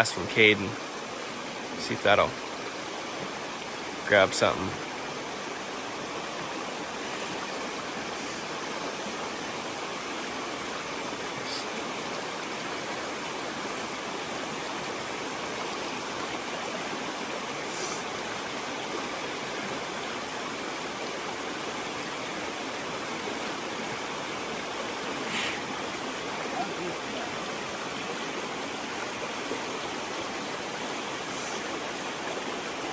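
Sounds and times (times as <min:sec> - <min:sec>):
creek water rushing: 0:00.0 - 0:32.9.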